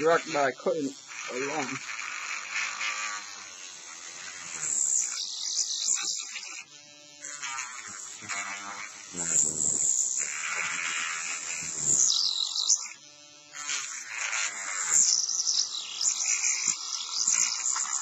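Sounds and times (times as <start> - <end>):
rotary cutting tool whining: 0.0 - 18.0.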